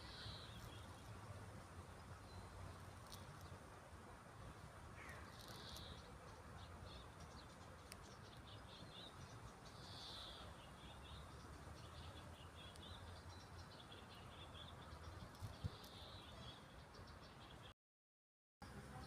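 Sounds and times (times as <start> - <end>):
faint birds chirping: 0.0 - 17.8.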